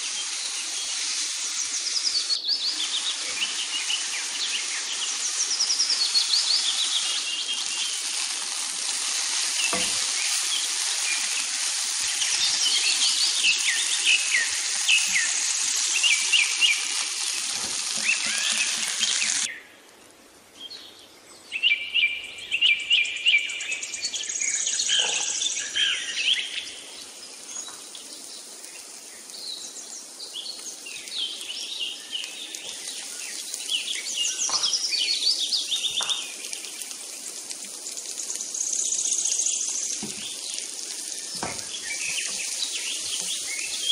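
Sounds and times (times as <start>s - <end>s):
small birds chirping: 0.0s - 19.7s, 20.6s - 43.9s
steady hiss: 0.0s - 43.9s.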